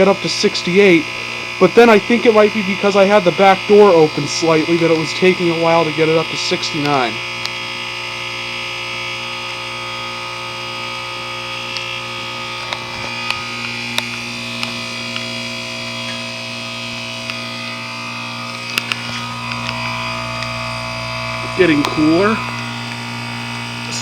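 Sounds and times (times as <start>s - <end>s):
heat pump electrical hum: 0.0s - 24.0s.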